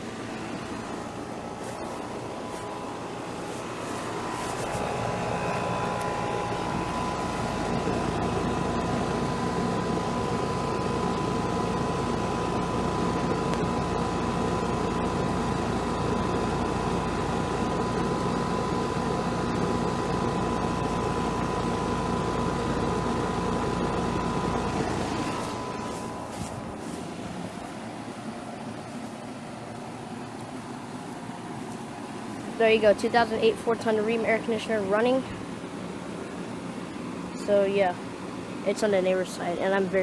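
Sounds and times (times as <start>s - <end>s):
air conditioner unit humming: 0.0s - 40.0s.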